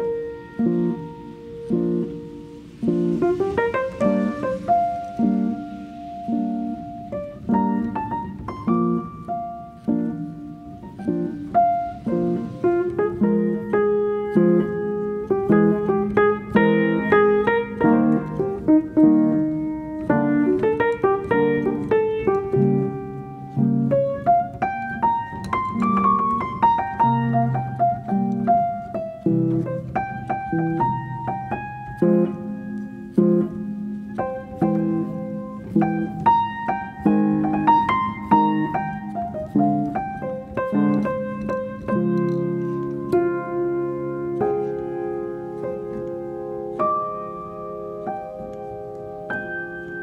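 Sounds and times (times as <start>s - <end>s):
background piano music: 0.0s - 50.0s.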